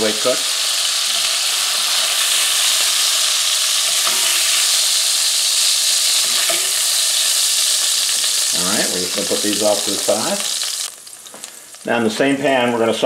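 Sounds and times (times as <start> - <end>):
hot oil sizzling in a pan: 0.0 - 13.0.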